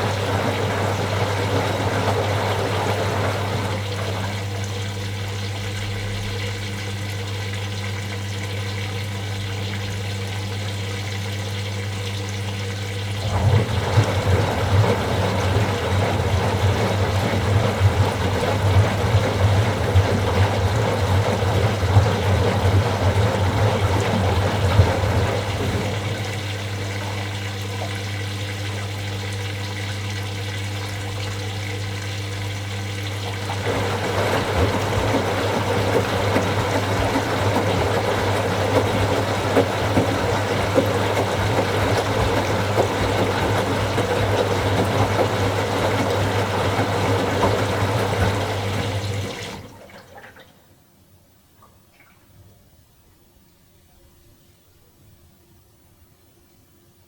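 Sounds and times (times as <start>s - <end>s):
laundry sloshing in drum: 0.0s - 11.3s, 12.9s - 50.5s
washing machine humming: 0.0s - 50.6s.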